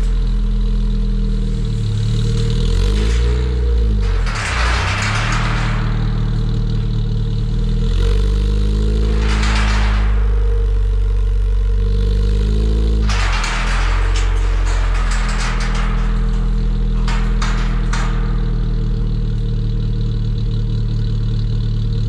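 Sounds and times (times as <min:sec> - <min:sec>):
exhaust rasp: 0:00.0 - 0:22.0.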